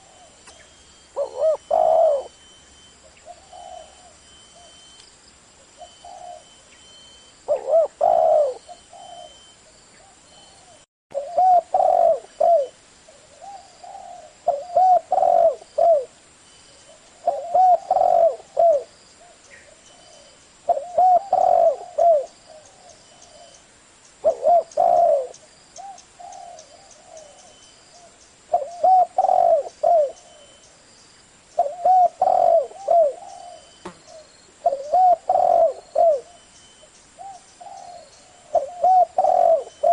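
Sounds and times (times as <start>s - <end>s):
dove cooing: 0.0s - 4.9s, 5.8s - 6.7s, 7.5s - 16.2s, 16.9s - 23.6s, 24.2s - 30.6s, 31.6s - 39.9s.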